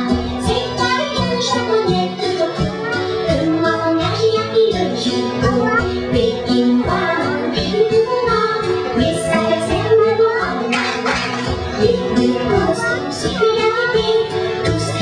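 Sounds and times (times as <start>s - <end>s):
children's song singing: 0.0s - 15.0s.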